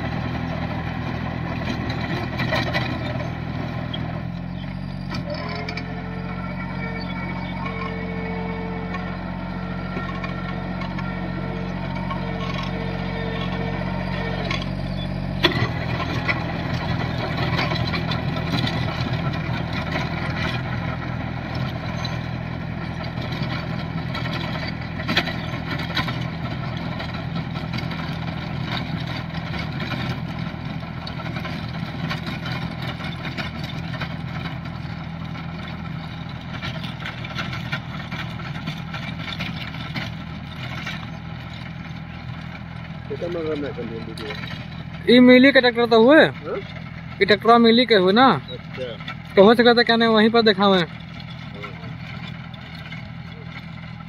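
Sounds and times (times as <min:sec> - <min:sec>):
diesel tractor engine running: 0:00.0 - 0:54.0
rotavator churning soil: 0:00.0 - 0:54.0.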